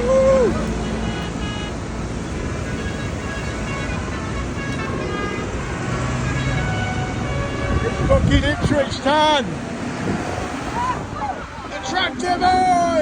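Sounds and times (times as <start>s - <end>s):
tractors driving past: 0.0s - 13.0s.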